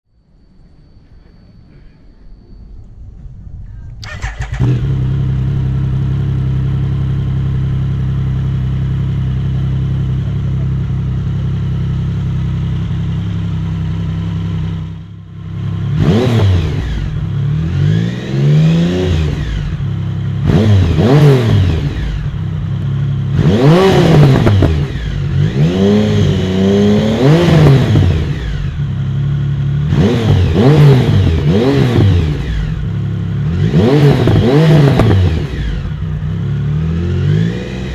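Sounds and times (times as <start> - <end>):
motorcycle engine idling and revving: 3.9 - 37.9.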